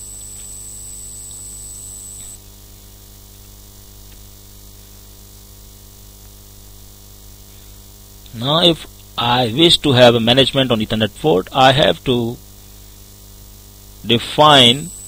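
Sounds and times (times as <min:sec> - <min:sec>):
thin high-pitched whine: 0:00.0 - 0:05.1, 0:07.4 - 0:15.0
electrical mains hum and hiss: 0:00.0 - 0:15.0.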